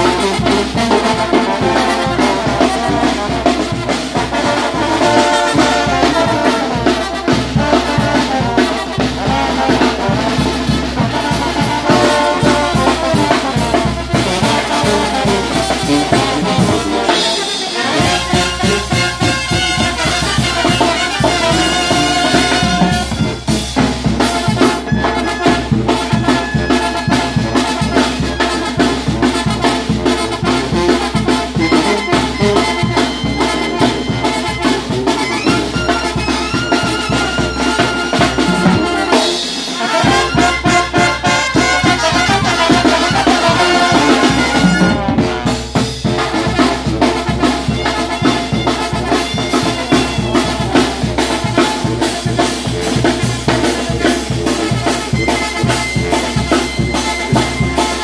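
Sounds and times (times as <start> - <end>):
brass band playing: 0.0 - 58.0
driving drum beat: 0.0 - 58.0.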